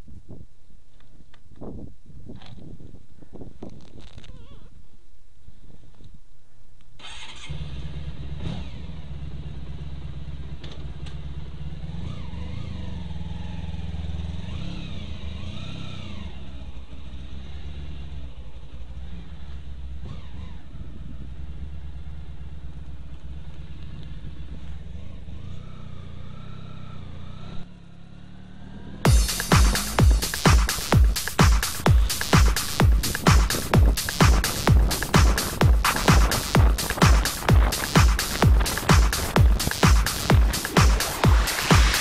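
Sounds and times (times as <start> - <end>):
motorcycle engine starting and running: 7.0 - 42.0.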